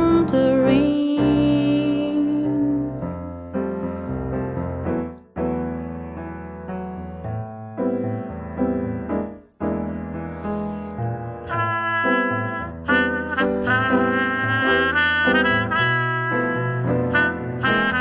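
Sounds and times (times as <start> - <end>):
jazz piano chords: 0.0 - 18.0.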